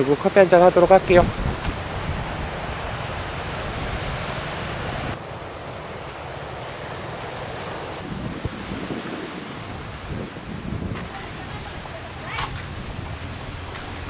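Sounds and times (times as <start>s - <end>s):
sea waves on rocky shore: 0.0s - 14.0s
wind on microphone: 0.7s - 5.2s, 7.0s - 14.0s.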